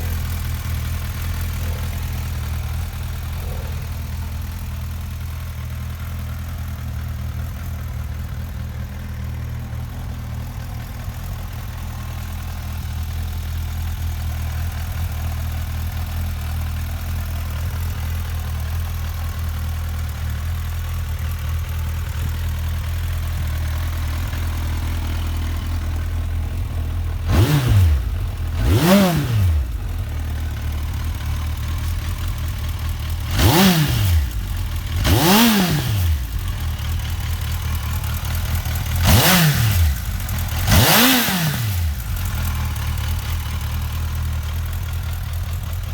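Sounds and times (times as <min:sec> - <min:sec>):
motorcycle engine idling: 0:00.0 - 0:45.9
motorcycle engine revving: 0:00.0 - 0:45.9.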